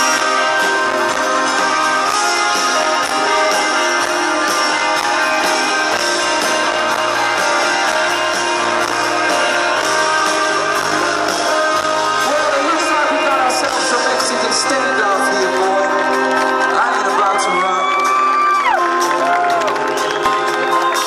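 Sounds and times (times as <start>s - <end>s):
live band music with steady beat: 0.0s - 21.0s.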